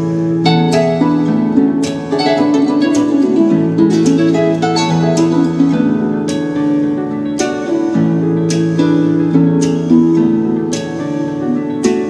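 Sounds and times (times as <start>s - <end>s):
calm plucked-string instrumental music: 0.0s - 12.0s.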